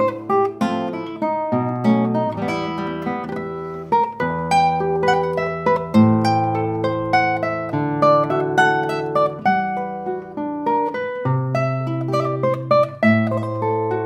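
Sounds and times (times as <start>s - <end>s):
fingerstyle classical guitar: 0.0s - 14.0s.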